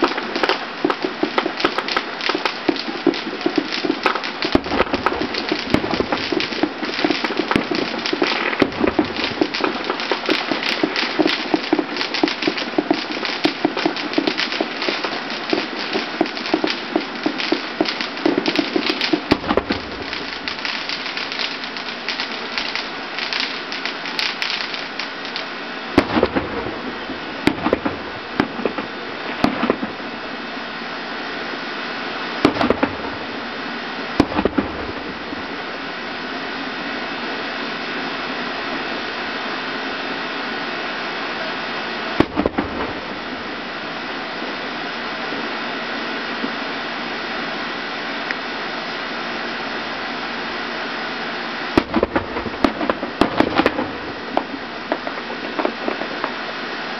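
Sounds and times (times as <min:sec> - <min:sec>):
fireworks booming: 0:00.0 - 0:56.9
fireworks crackling: 0:00.0 - 0:56.9
steady hiss: 0:00.0 - 0:56.9.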